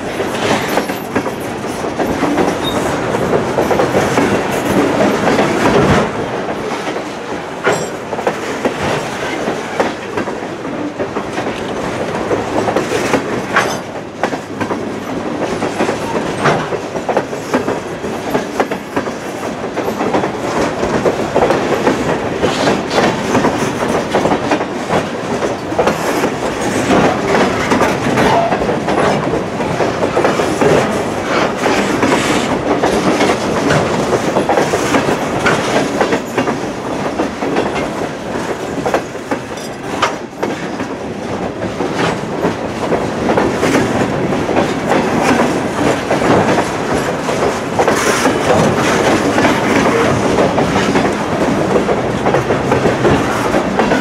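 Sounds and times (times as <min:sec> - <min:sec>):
clickety-clack of rails: 0:00.0 - 0:54.0
freight train wheels rumbling: 0:00.0 - 0:54.0.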